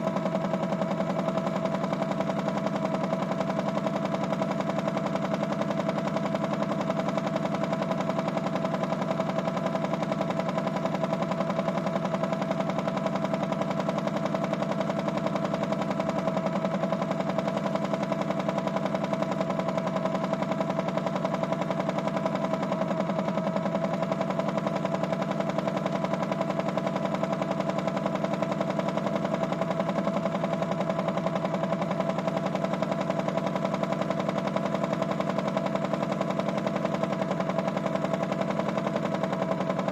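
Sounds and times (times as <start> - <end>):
toy washing machine motor whine: 0.0 - 39.9.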